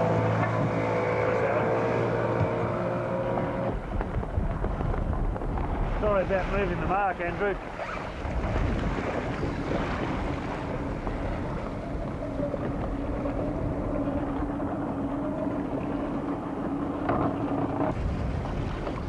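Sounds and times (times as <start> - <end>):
outboard motor running: 0.0 - 19.0
water rushing past hull: 0.0 - 19.0
wind buffeting microphone: 0.2 - 19.0.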